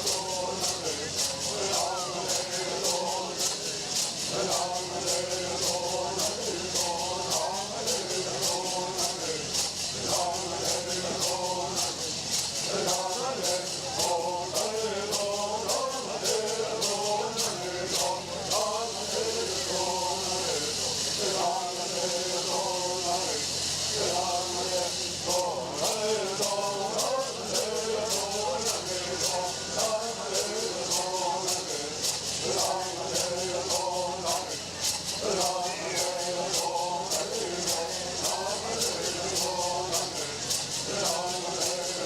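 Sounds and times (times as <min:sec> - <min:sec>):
group of voices chanting: 0:00.0 - 0:42.0
shaken rattle beat: 0:00.0 - 0:42.0.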